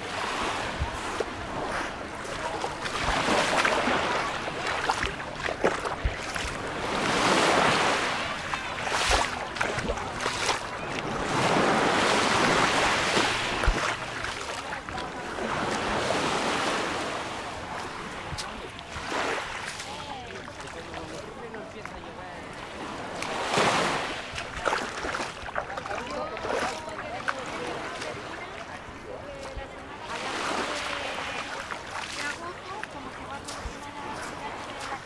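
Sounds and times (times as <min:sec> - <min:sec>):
waves washing over pebbles: 0:00.0 - 0:35.0.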